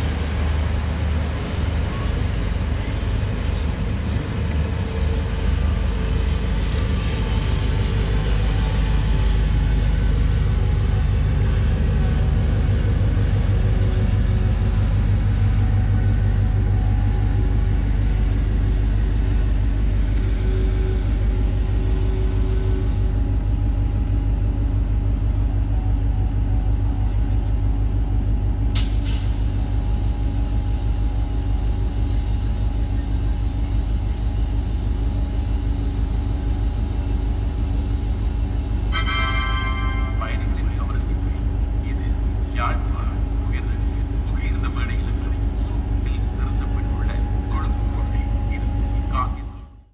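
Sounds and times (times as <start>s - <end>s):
diesel train engine rumbling: 0.0s - 49.9s.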